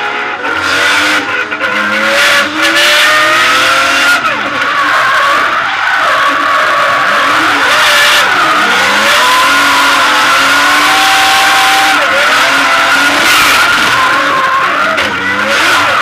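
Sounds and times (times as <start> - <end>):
turbocharged car engine revving: 0.0 - 16.0
tyres squealing: 0.0 - 16.0.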